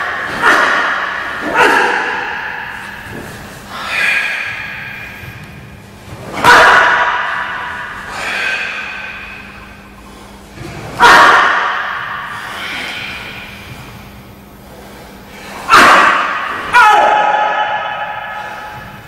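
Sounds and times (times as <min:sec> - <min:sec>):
sharp snaps echoing in a hall: 0:00.0 - 0:14.1, 0:15.5 - 0:19.0.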